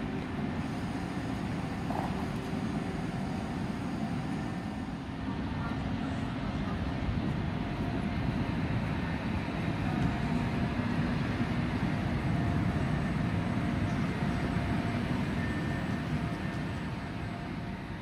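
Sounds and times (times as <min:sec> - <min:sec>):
train rumble and hum: 0:00.0 - 0:18.0
faint steady whine: 0:00.1 - 0:18.0.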